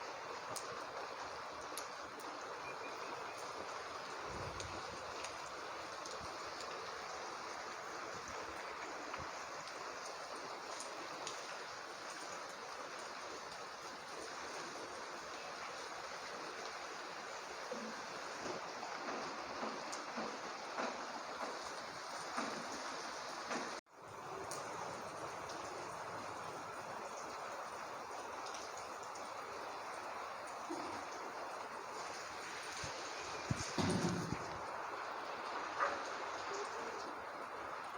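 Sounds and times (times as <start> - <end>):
heavy rain: 0.0 - 37.9
raindrop ticks: 0.4 - 37.9.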